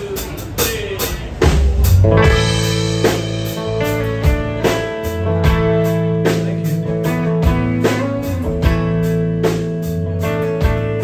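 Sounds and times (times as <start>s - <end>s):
light drums: 0.0s - 11.0s
electric bass line: 1.2s - 11.0s.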